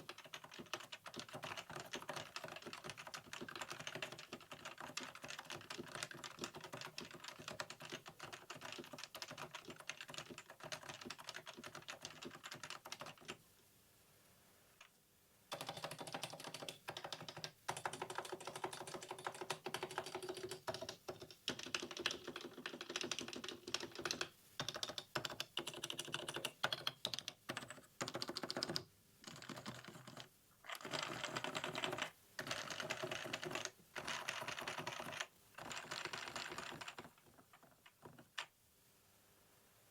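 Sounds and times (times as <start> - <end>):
keyboard typing: 0.0 - 13.4, 15.5 - 38.5.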